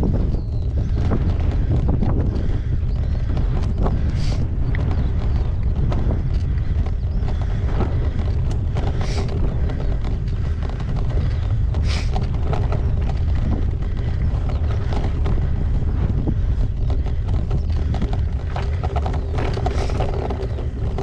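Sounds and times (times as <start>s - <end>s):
bike knocks and rattles: 0.0s - 21.0s
wind buffeting microphone: 0.0s - 21.0s.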